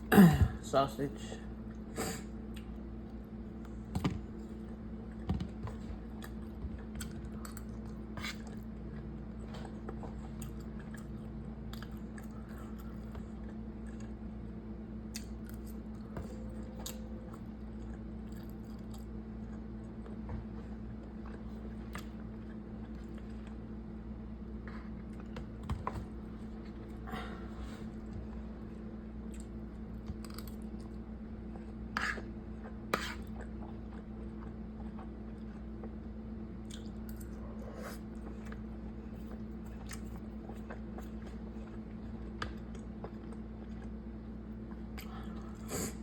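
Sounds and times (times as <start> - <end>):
steady low hum: 0.0 - 46.0
person chewing food: 1.6 - 46.0.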